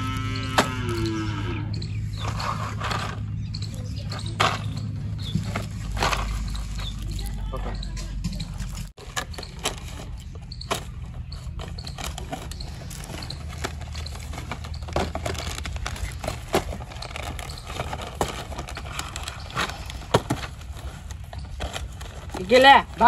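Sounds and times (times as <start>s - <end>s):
cardboard boxes knocking and scraping: 2.2s - 23.0s.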